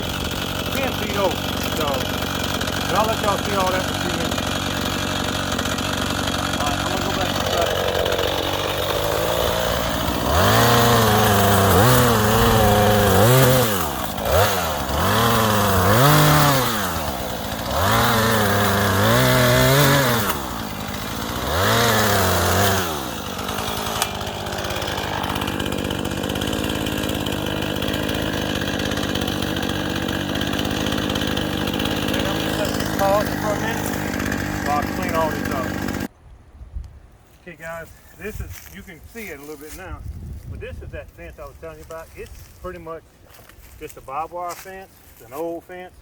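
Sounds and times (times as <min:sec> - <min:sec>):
chainsaw revving and idling: 0:00.0 - 0:36.1, 0:41.1 - 0:46.0.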